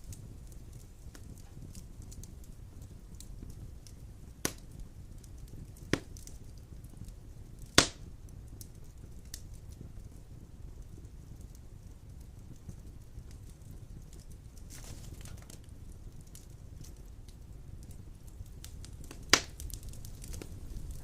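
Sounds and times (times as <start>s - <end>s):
fire rumbling and crackling: 0.0s - 21.0s
sharp fire pops: 0.0s - 21.0s.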